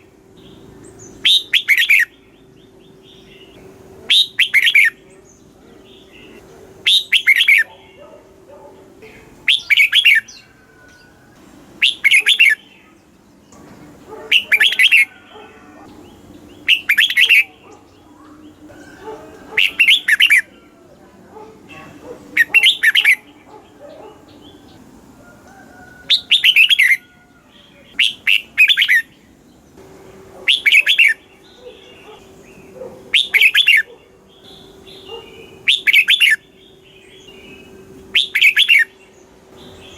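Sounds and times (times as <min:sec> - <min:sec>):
bird singing chirpy phrase: 0:00.4 - 0:08.2, 0:08.8 - 0:11.2, 0:11.8 - 0:13.6, 0:14.3 - 0:20.9, 0:21.6 - 0:24.8, 0:26.2 - 0:29.7, 0:30.5 - 0:39.9.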